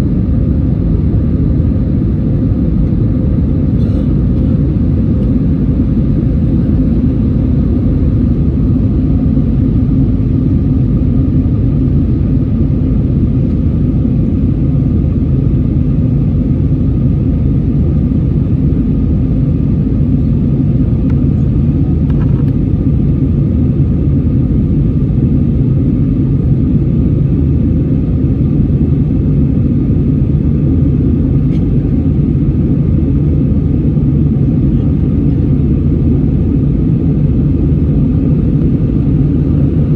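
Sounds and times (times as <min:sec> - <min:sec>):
faint engine whine: 0:00.0 - 0:39.9
jet engine cabin rumble: 0:00.0 - 0:39.9.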